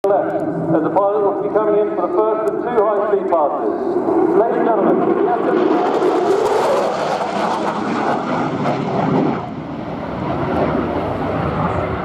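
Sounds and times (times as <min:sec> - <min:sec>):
jet fighter roaring pass: 0:00.1 - 0:12.0.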